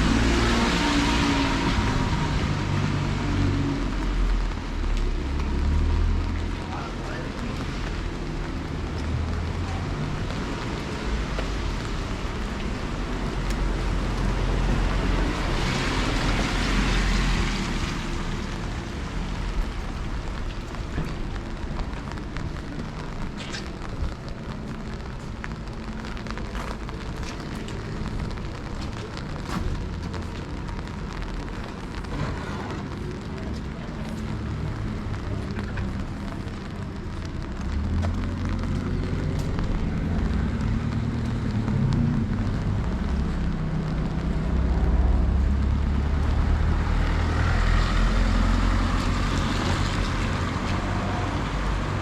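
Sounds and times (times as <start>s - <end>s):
low rumble: 0.0s - 52.0s
rain hissing: 0.0s - 52.0s
raindrops ticking: 0.0s - 52.0s.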